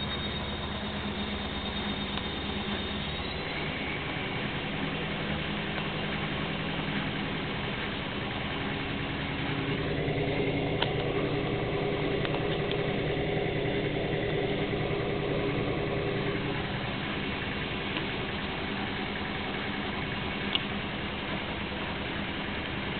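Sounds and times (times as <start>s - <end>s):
washing machine spinning: 0.0s - 22.9s.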